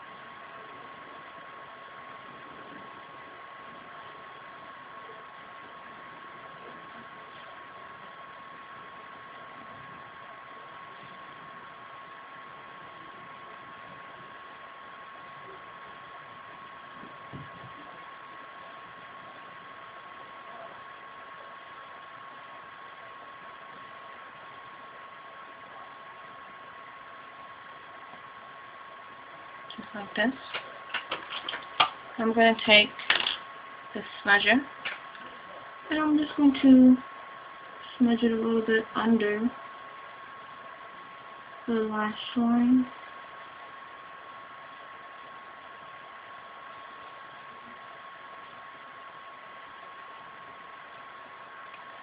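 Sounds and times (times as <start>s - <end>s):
steady hiss: 0.0s - 52.0s
thin high whine: 0.0s - 52.0s.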